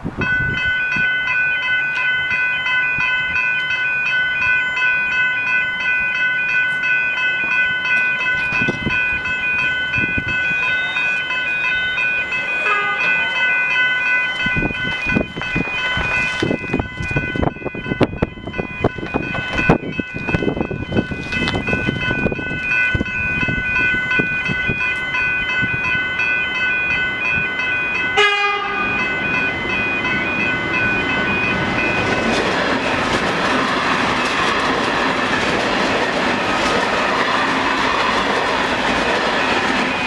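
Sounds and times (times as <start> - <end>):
level crossing bells ringing: 0.2 - 40.0.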